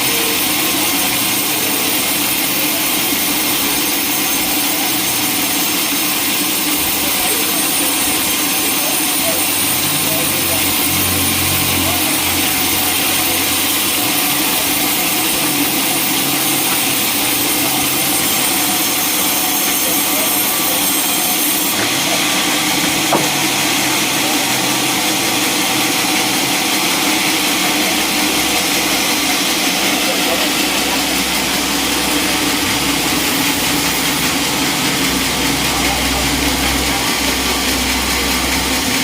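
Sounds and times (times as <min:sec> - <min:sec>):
saw cutting through log: 0:00.0 - 0:39.0.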